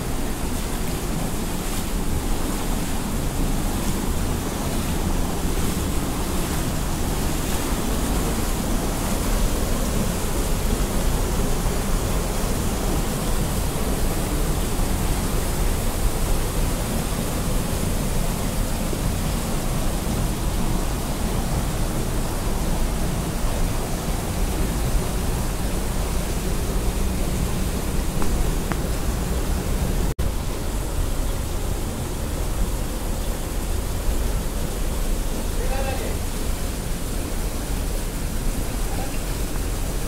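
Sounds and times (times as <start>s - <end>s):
small waterfall spilling: 0.0s - 40.0s
stream rushing over rocks: 0.0s - 40.0s.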